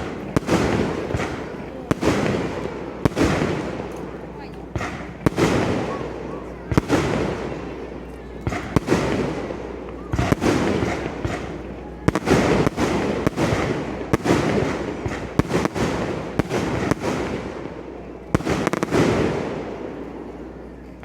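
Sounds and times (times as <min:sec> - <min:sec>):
rumbling crackling echo: 0:00.0 - 0:20.4.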